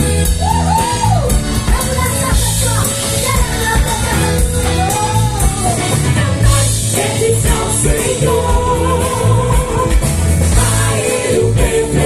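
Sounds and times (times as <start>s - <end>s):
bass and drums beat: 0.0s - 12.0s
gospel band playing: 0.0s - 12.0s.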